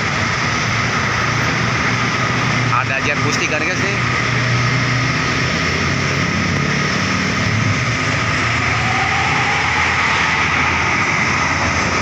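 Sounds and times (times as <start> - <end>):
bus diesel engine passing: 0.0 - 12.0
road traffic noise: 0.0 - 12.0.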